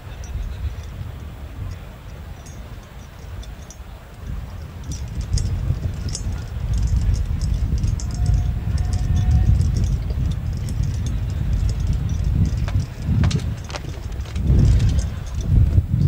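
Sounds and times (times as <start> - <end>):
light clicks and jingles: 0.0 - 16.0.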